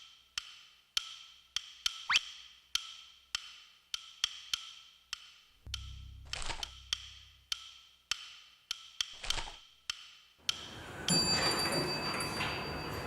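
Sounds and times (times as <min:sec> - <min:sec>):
wood-block ticks: 0:00.0 - 0:10.8.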